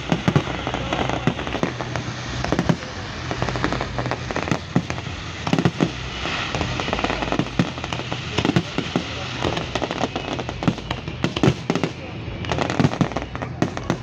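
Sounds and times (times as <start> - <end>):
fireworks cracks and pops: 0.0 - 14.0
rumble of firework bursts: 0.0 - 14.0.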